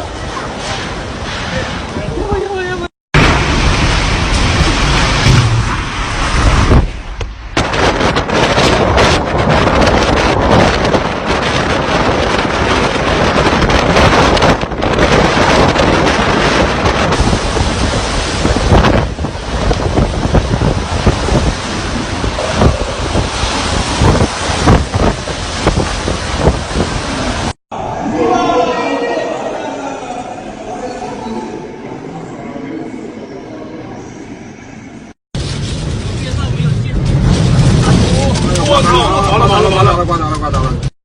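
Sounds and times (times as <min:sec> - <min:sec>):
strong wind gusts buffeting microphone: 0:00.0 - 0:27.6, 0:35.4 - 0:40.9.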